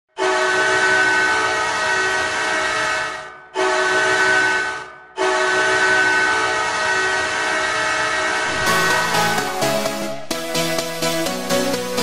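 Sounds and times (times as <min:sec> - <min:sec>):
goal horn blasts: 0:00.2 - 0:10.3.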